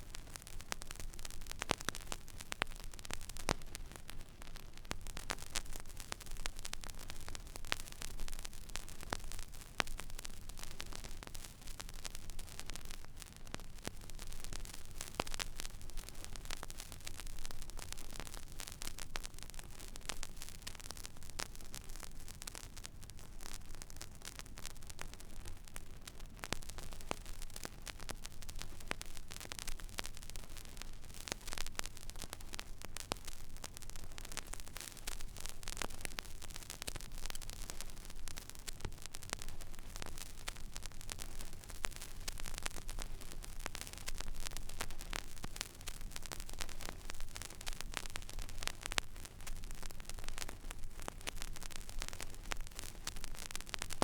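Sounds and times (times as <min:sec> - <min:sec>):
vinyl surface hiss and crackles: 0:00.0 - 0:54.0.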